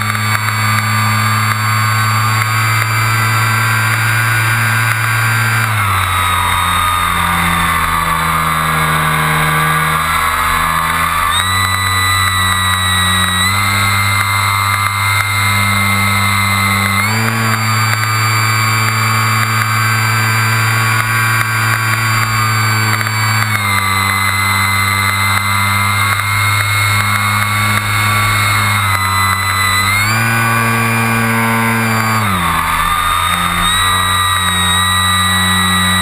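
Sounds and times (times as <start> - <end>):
model airplane motor: 0.0 - 36.0.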